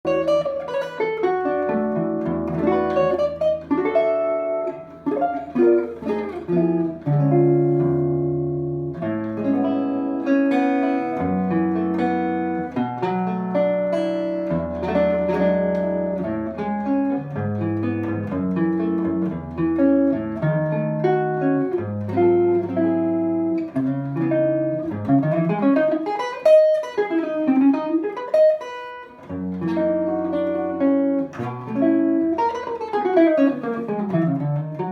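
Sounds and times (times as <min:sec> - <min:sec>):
electric guitar playing: 0:00.0 - 0:34.9.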